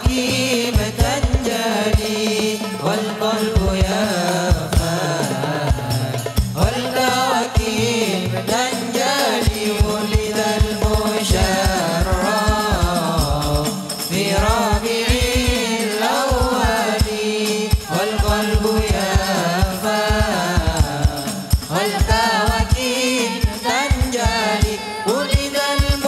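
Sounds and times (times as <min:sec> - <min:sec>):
frame drums beating: 0:00.0 - 0:26.0
men singing devotional melody: 0:00.0 - 0:26.0.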